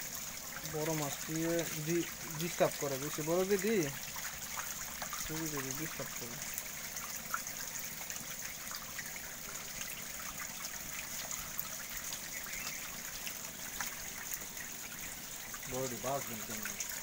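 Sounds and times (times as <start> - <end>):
fish churning in shallow water: 0.0 - 17.0
water trickling and splashing: 0.0 - 17.0.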